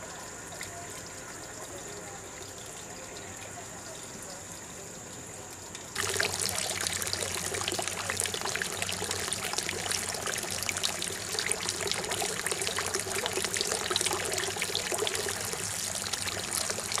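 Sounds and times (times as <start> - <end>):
water pouring into a bucket: 0.0 - 17.0.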